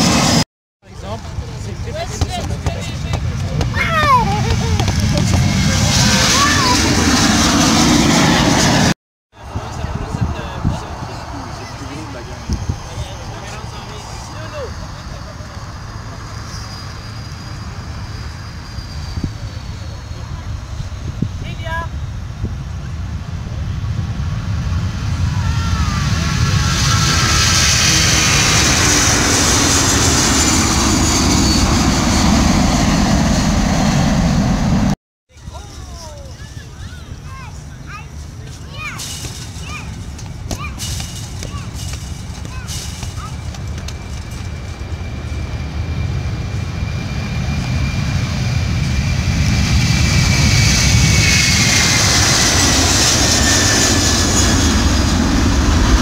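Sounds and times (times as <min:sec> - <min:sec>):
jet engines roaring at takeoff: 0:00.0 - 0:56.0.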